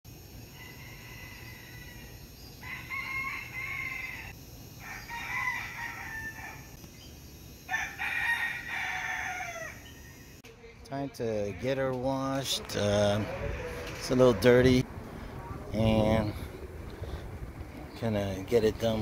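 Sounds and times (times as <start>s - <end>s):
roosters crowing: 0.4s - 6.8s, 7.6s - 17.7s.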